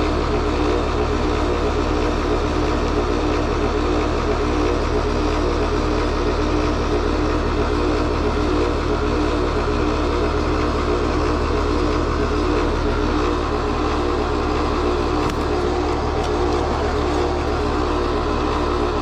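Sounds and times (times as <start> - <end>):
heat pump compressor clattering: 0.0 - 19.0.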